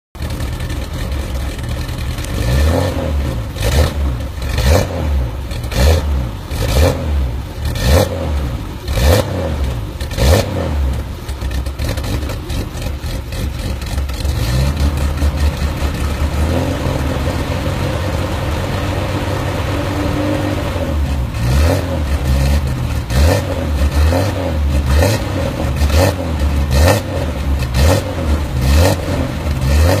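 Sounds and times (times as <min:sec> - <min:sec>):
car engine revving and idling: 0:00.2 - 0:30.0.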